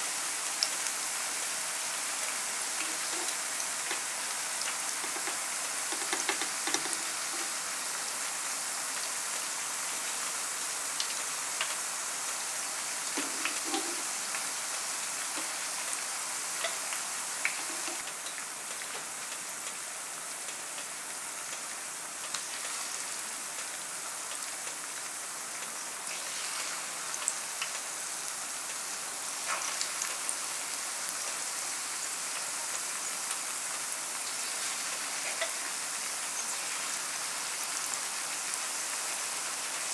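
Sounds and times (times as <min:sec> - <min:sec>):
food deep-frying in hot oil: 0:00.0 - 0:39.9.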